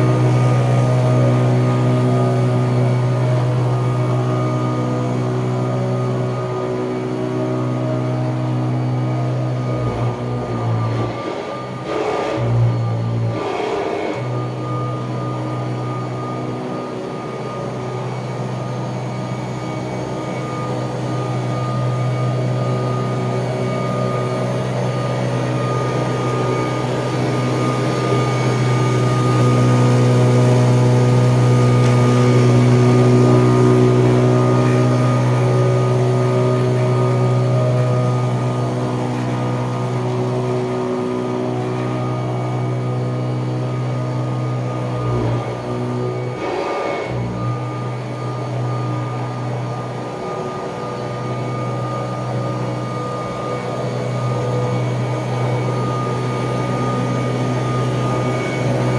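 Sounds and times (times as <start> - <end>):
vacuum cleaner running on carpet: 0.0 - 58.9.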